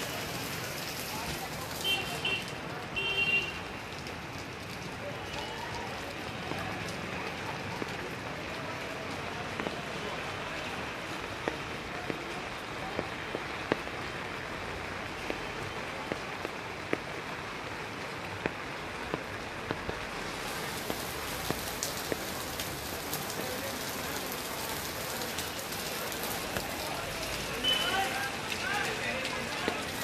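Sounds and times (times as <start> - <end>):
raindrops striking close by: 0.0 - 30.0
steady rain falling: 0.0 - 30.0.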